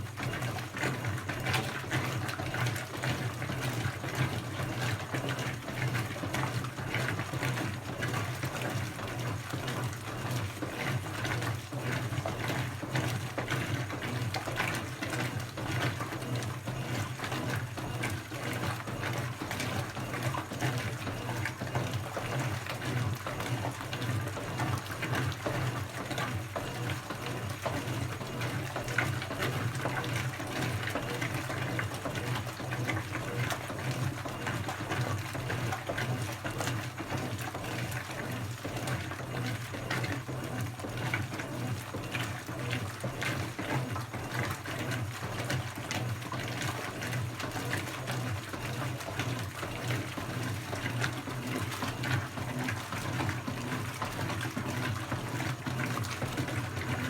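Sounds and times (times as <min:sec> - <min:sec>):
washing machine motor hum: 0:00.0 - 0:57.0
water sloshing in tub: 0:00.0 - 0:57.0.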